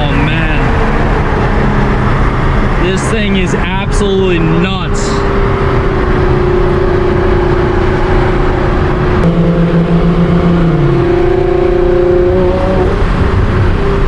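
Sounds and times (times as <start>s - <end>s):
car engine loud steady drone: 0.0s - 14.0s.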